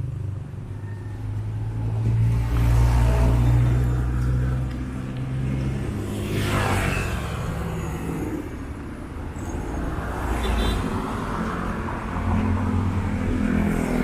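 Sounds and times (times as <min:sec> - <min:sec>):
vehicle engine humming: 0:00.0 - 0:14.0
vehicle passing: 0:01.2 - 0:14.0.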